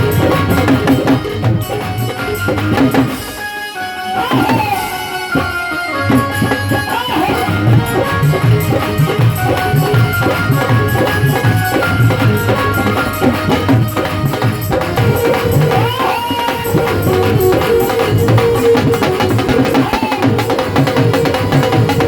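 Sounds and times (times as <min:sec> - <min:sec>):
hand drum beat: 0:00.0 - 0:03.4, 0:04.2 - 0:22.0
sustained melody line: 0:00.0 - 0:22.0.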